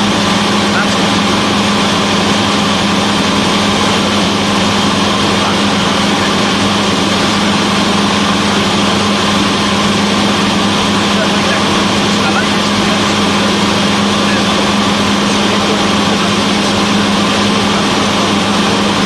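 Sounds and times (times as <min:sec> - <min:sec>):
small plane engine drone: 0:00.0 - 0:19.0.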